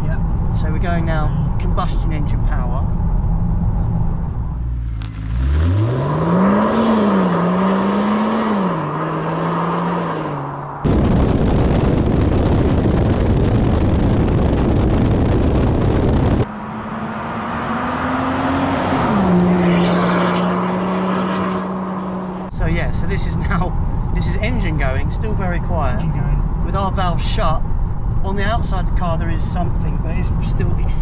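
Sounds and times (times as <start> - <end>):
wind and road noise: 0.0 - 31.0
car engine accelerating: 1.5 - 31.0.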